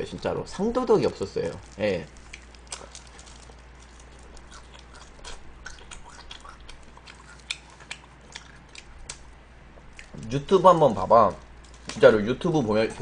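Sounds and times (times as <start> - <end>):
chewing salad leaves: 0.7 - 12.4.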